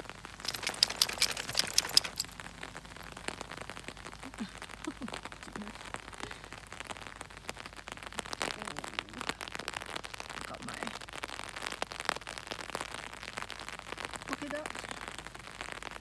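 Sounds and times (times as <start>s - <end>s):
rain pattering on an umbrella: 0.0s - 16.0s.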